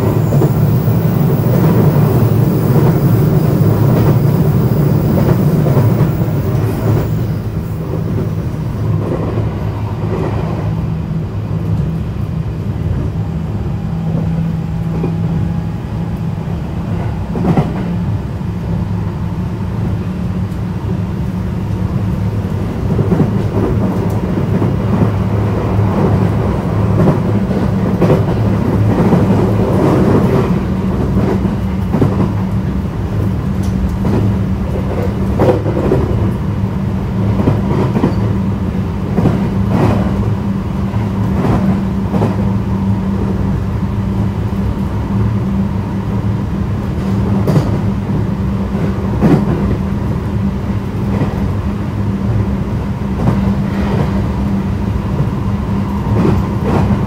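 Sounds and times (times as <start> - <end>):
train interior low rumble: 0.0 - 57.0.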